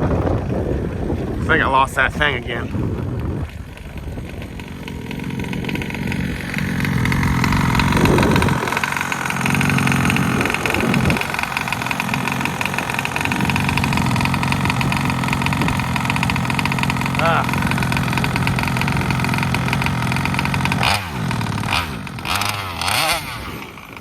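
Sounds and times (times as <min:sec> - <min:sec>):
two-stroke rc car engine running: 0:00.0 - 0:24.0.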